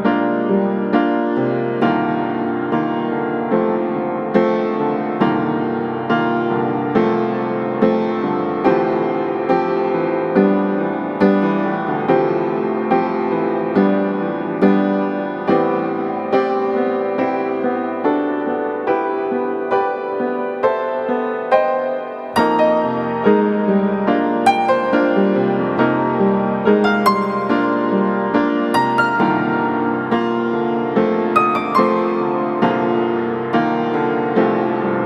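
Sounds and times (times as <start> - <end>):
slow piano music: 0.0 - 35.0.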